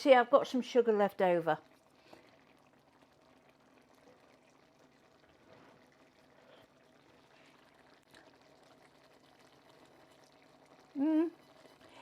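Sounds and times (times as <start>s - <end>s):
sauce bubbling in a pan: 0.0s - 12.0s.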